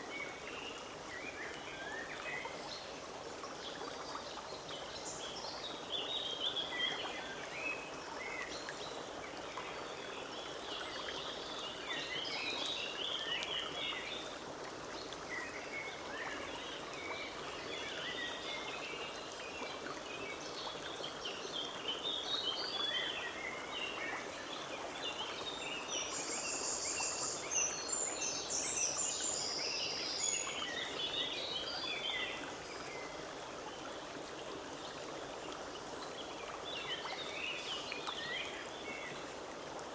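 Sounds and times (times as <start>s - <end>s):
forest stream running: 0.0s - 39.9s.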